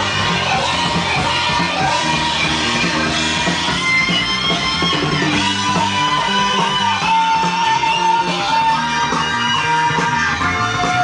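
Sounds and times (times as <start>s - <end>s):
rock music from vinyl record: 0.0s - 11.0s.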